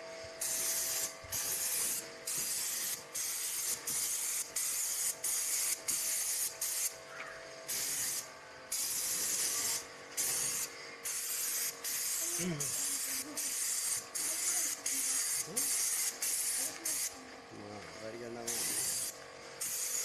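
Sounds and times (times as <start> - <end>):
paint sprayer hissing: 0.0 - 20.0.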